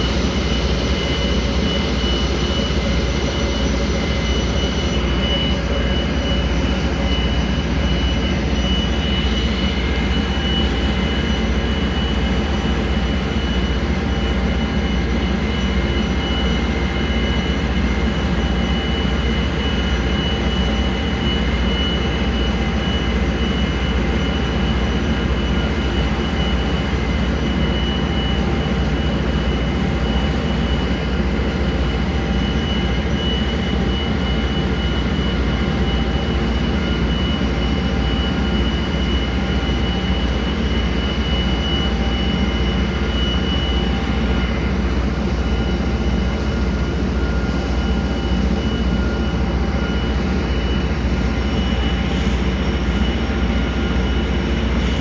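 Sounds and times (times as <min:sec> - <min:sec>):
barge engine drone: 0:00.0 - 0:55.0.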